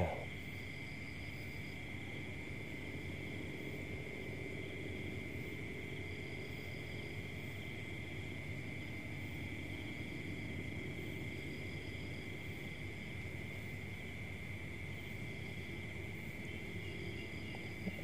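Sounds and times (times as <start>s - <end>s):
crickets chirring: 0.0s - 18.0s
low background rumble: 0.0s - 18.0s.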